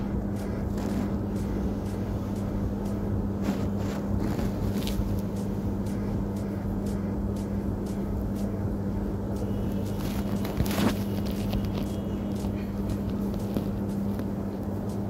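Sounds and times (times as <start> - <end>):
low electrical appliance hum: 0.0 - 15.0.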